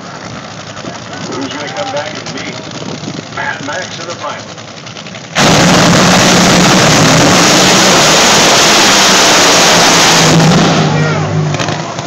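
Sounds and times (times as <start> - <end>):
boat engines roaring: 0.0 - 12.0.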